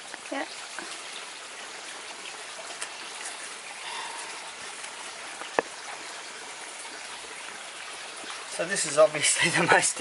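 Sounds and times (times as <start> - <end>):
rushing outdoor hiss: 0.0 - 10.0.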